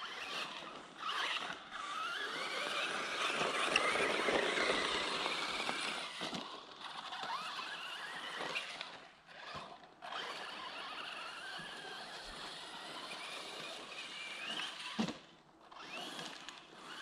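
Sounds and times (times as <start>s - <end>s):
toy truck electric motor whining: 0.0s - 17.0s.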